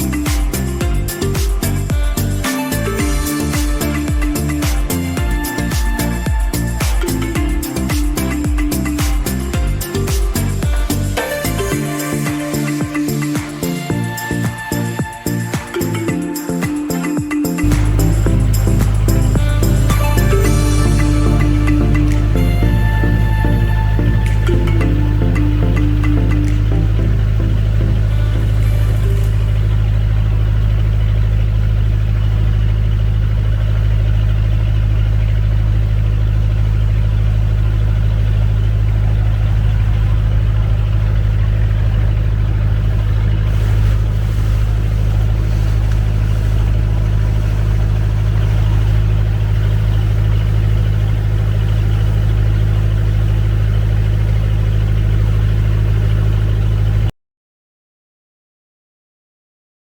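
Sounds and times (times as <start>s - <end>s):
engine running with low hum: 0.0s - 57.1s.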